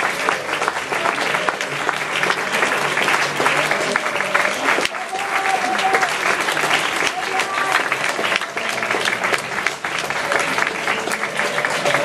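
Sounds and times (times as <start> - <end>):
audience applauding: 0.0 - 12.0
voices in crowd: 0.0 - 12.0.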